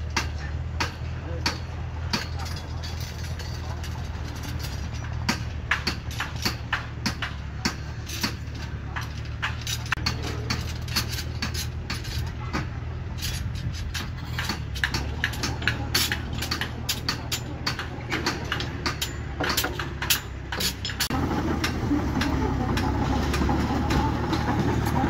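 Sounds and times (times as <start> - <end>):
engine humming: 0.0 - 25.0
steel bars clinking: 0.0 - 25.0.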